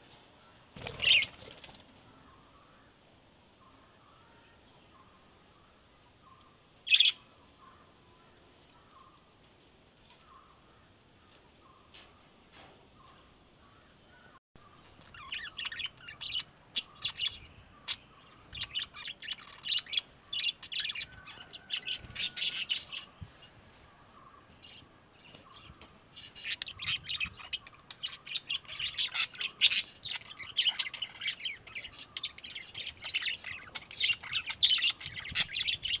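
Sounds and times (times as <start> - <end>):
lovebirds chirping: 0.4 - 9.3, 12.8 - 36.0.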